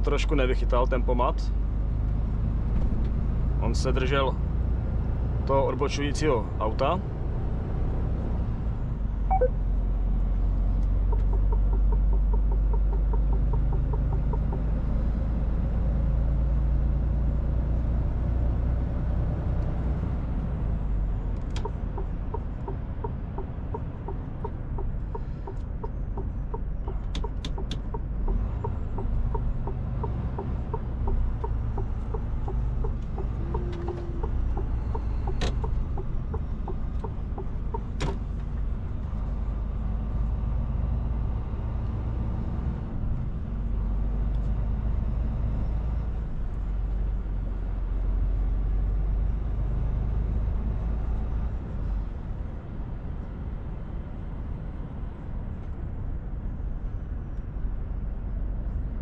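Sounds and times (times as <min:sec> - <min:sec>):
diesel engine drone: 0:00.0 - 0:59.0
tyre and road noise: 0:00.0 - 0:59.0.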